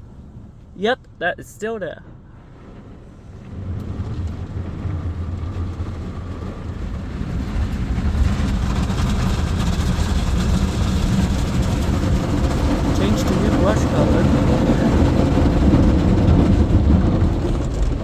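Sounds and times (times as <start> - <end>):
car wash brushes rumbling: 0.0 - 18.0.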